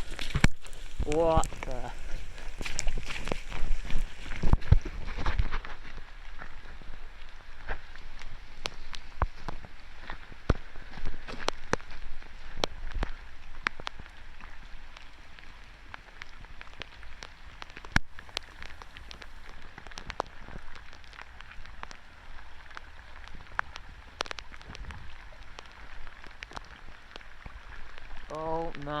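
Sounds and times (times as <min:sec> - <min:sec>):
flowing floodwater rushing: 0:00.0 - 0:29.0.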